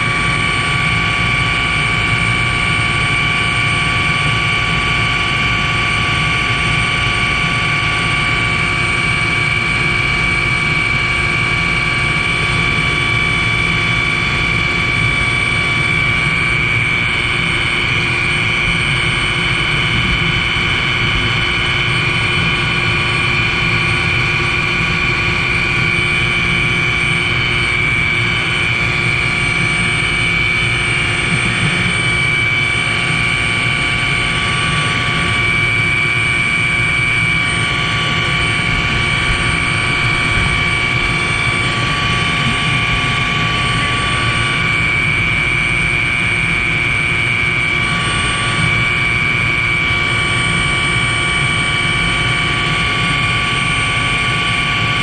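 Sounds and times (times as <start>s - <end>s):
helicopter engine and rotor: 0.0s - 55.0s
high steady whine: 0.0s - 55.0s.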